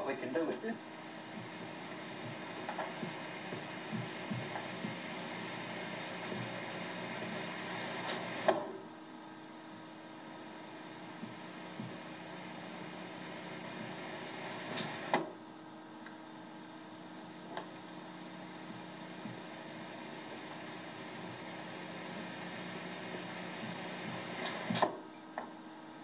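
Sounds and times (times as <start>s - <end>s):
videotape playback hum: 0.0s - 26.0s.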